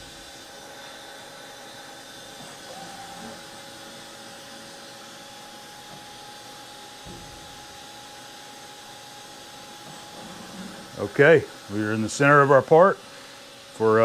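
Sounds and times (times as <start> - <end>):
faint steady whine: 0.0 - 14.0
milling machine hum and hiss: 0.0 - 14.0.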